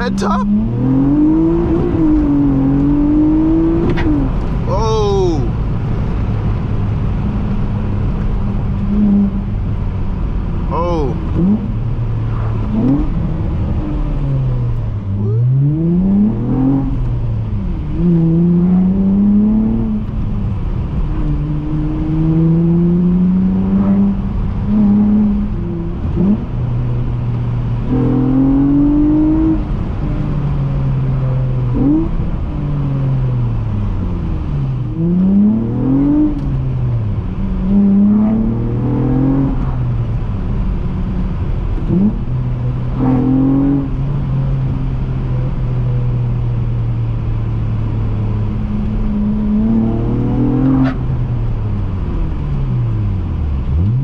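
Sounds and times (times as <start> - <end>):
car engine revving through gears: 0.0 - 4.7, 5.6 - 54.0.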